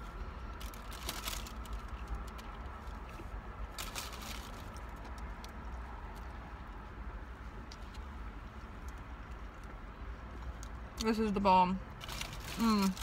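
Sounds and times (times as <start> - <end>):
rustles and crackles of burger eating: 0.0 - 11.3, 11.9 - 13.0.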